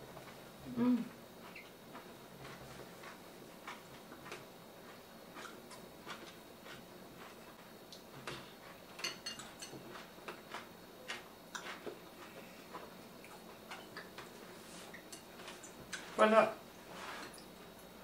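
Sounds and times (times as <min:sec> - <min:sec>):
people chewing with mouth clicks: 0:00.2 - 0:16.2.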